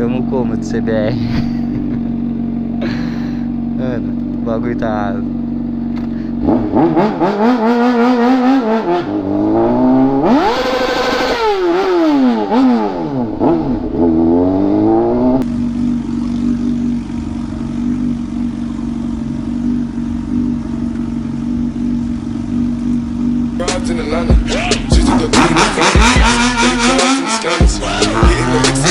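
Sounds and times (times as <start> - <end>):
motorcycle engine revving: 0.0 - 28.9
steady engine drone: 0.0 - 28.9.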